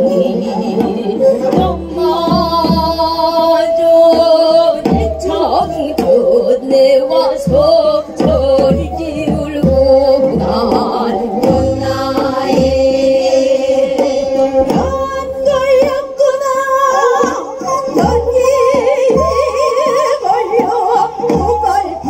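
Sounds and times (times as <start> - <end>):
women singing with heavy vibrato: 0.0 - 22.0.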